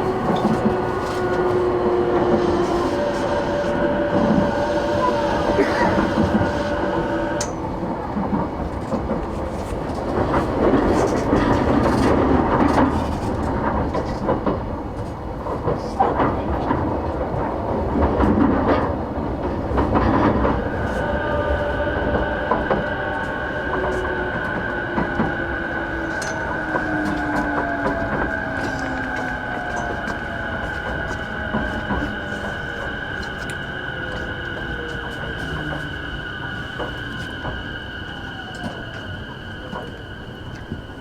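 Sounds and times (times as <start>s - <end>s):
electric train motor whine: 0.0s - 13.6s, 18.9s - 41.0s
clacks over rail joints: 0.0s - 37.7s
wheel-on-rail rumble: 0.0s - 41.0s.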